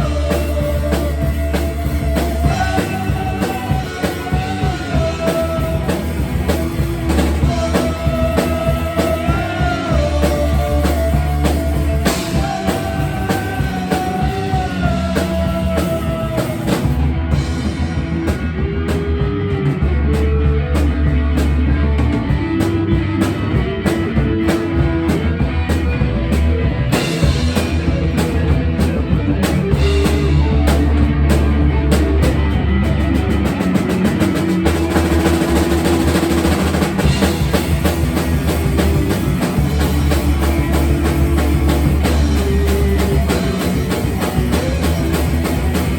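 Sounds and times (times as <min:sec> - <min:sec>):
rock music: 0:00.0 - 0:45.9.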